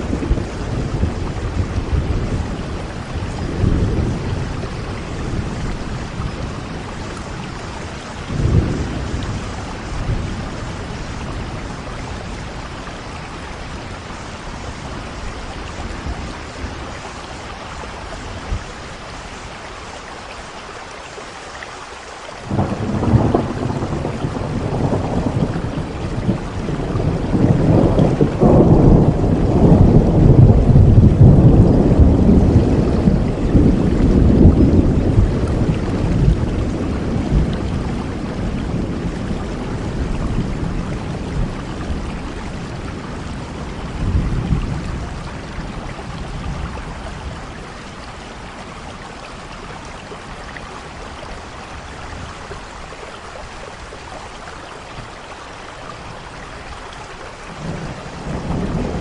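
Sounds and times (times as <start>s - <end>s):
thunder rumbling: 0.0s - 19.5s, 22.4s - 53.0s, 57.4s - 59.0s
heavy rain falling: 0.0s - 59.0s.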